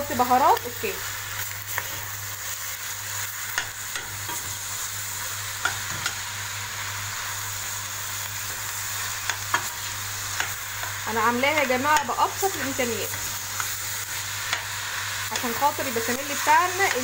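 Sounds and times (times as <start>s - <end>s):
meat and onions sizzling: 0.0s - 17.0s.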